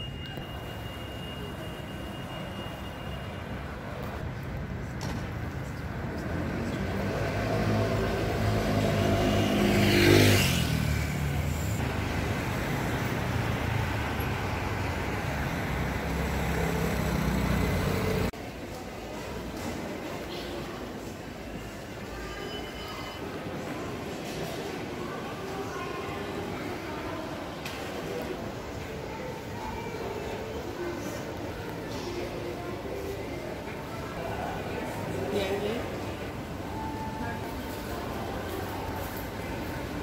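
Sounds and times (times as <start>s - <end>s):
road traffic: 0.0s - 40.0s.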